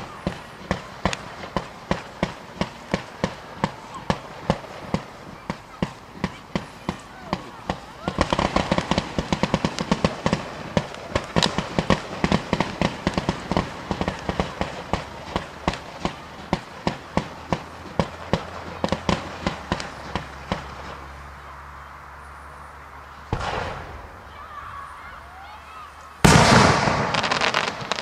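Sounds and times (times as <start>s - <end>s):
fireworks sharp reports: 0.0s - 28.0s.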